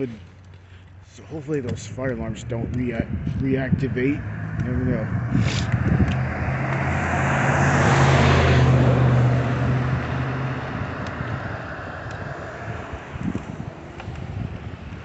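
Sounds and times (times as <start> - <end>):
tyre noise: 0.0 - 15.0
vehicle engine hum: 0.0 - 15.0.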